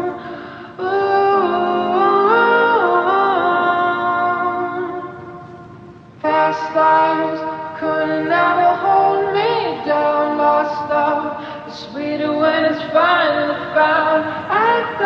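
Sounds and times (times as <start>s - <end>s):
layered voices singing in harmony: 0.0s - 15.0s.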